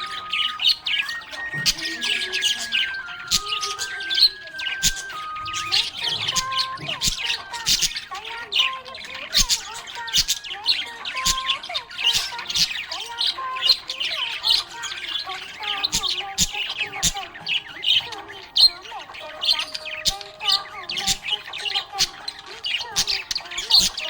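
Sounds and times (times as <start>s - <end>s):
budgerigars chirping and warbling: 0.0s - 24.0s.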